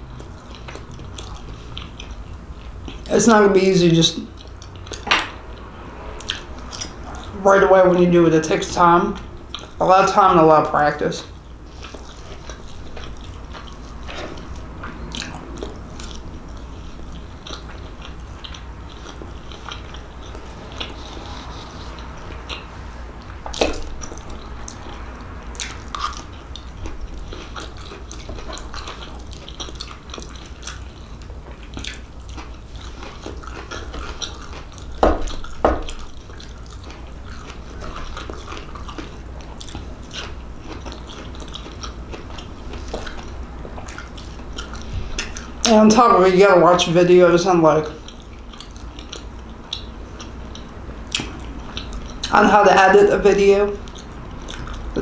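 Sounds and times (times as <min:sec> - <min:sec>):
close chewing and biting food: 0:00.0 - 0:07.8, 0:08.5 - 0:46.9, 0:47.8 - 0:52.7, 0:53.3 - 0:55.0.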